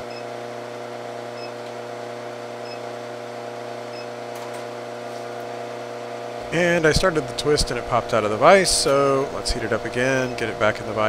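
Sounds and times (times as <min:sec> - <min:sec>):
induction heater humming: 0:00.0 - 0:11.0.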